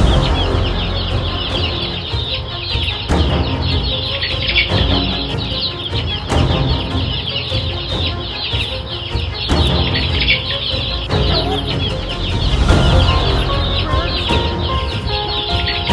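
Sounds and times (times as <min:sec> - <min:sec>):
flock of birds squawking: 0:00.0 - 0:15.9
music with heavy beat: 0:00.0 - 0:15.9.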